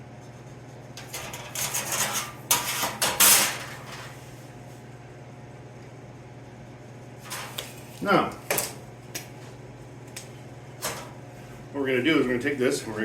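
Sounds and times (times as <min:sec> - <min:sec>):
low shop hum: 0:00.0 - 0:13.0.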